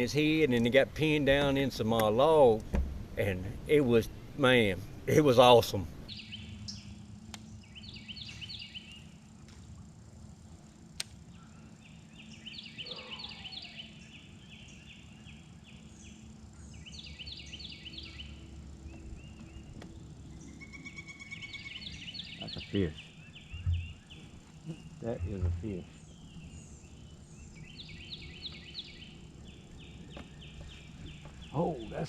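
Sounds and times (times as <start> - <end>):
faint outdoor background noise: 0.0 - 32.0.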